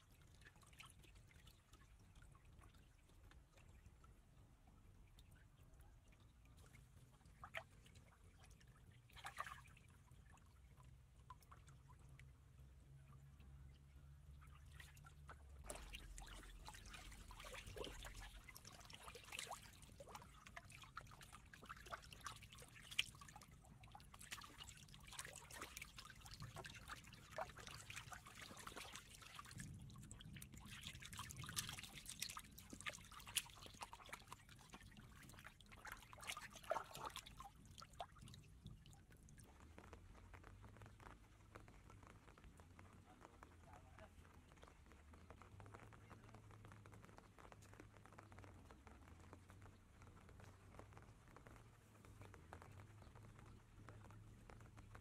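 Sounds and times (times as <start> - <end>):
small water splashes: 0.0 - 55.0
water trickling and dripping: 0.0 - 55.0.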